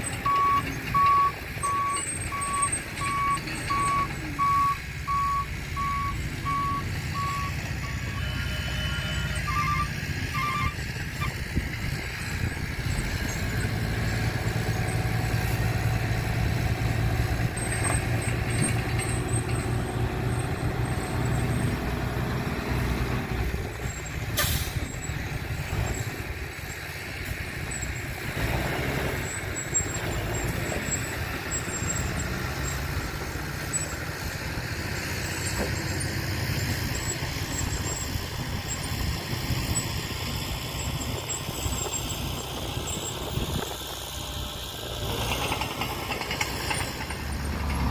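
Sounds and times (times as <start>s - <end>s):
heavy truck engine rumbling: 0.0s - 47.9s.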